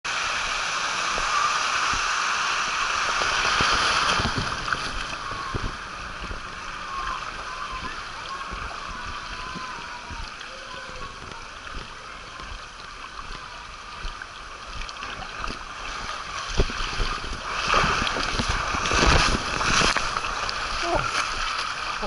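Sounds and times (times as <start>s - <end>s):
water rushing down slide: 0.1s - 22.0s.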